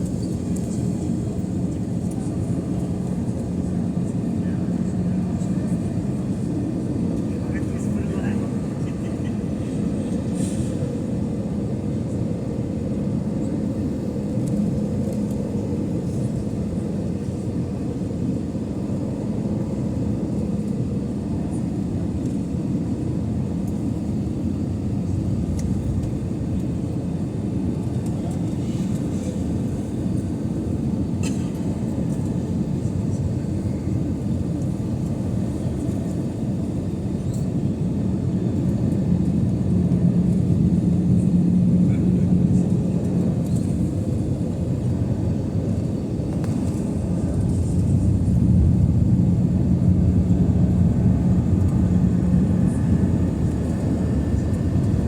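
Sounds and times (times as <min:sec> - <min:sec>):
engine and airflow rumble: 0:00.0 - 0:55.0.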